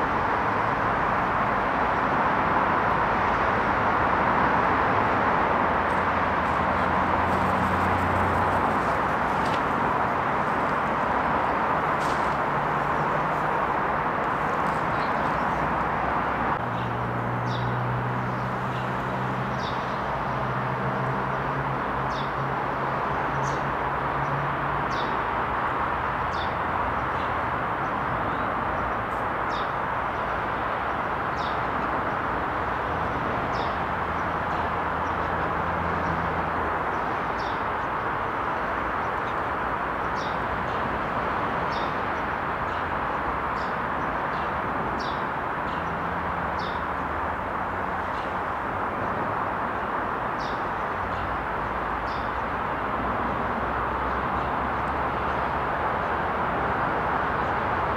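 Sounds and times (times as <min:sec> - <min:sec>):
distant city traffic roar: 0:00.0 - 0:57.9.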